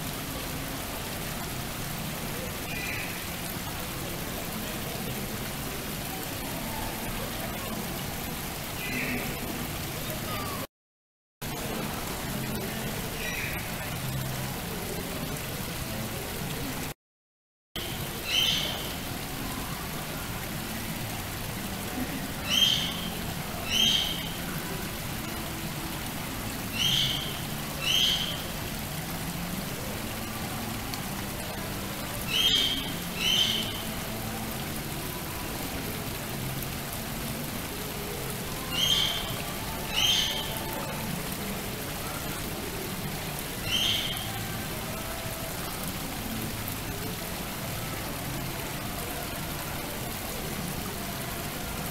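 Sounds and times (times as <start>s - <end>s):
waterfall splashing into pond: 0.0s - 10.7s, 11.4s - 17.0s, 17.8s - 51.9s.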